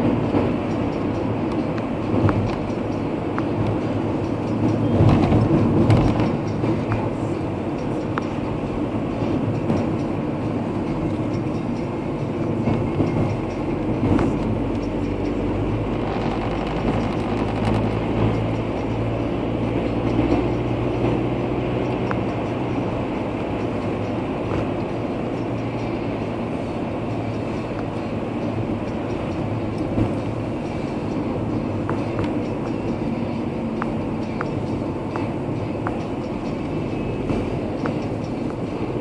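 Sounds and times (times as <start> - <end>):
low engine hum: 0.0 - 39.0.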